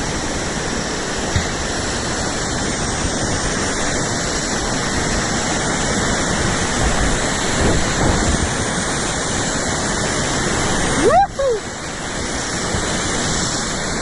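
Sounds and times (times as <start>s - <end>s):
river rapids rushing: 0.0s - 14.0s.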